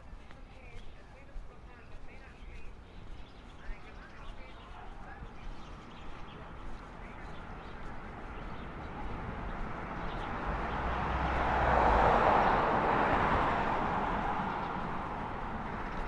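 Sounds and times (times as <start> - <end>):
road vehicle passing by: 2.9 - 16.0.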